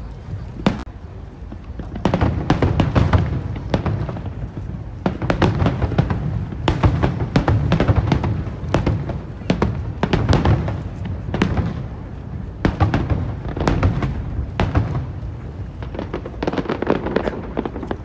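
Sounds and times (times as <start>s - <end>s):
crackling reports: 0.0s - 18.0s.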